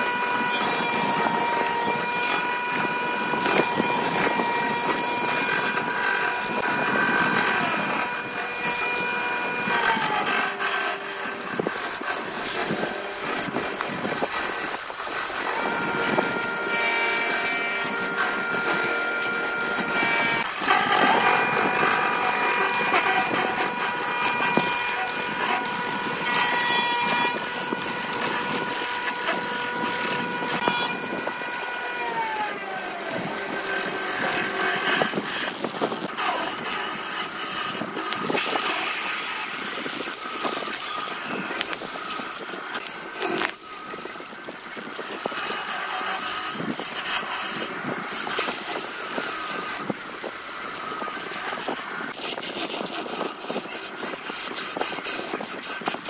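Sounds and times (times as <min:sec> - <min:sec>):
lathe motor whine: 0:00.0 - 0:56.0
turning tool scraping wood: 0:00.0 - 0:56.0.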